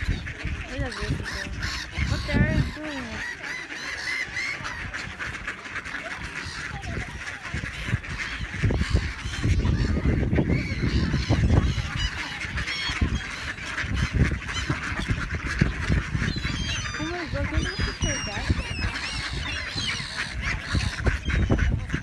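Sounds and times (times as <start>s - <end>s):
waterfowl honking and quacking: 0.0s - 22.0s.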